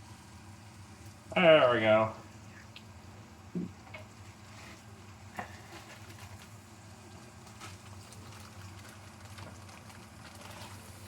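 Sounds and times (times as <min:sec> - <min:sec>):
meat crackling in a pan: 0:00.0 - 0:01.4, 0:02.2 - 0:11.0
low steady hum: 0:00.0 - 0:11.0.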